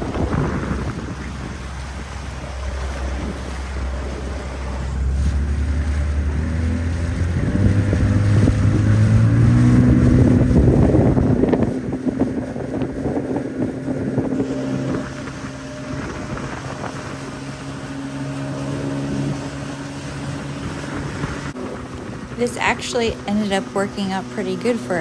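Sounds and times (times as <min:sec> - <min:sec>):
outboard motor running: 0:00.0 - 0:25.0
wind buffeting microphone: 0:00.0 - 0:25.0.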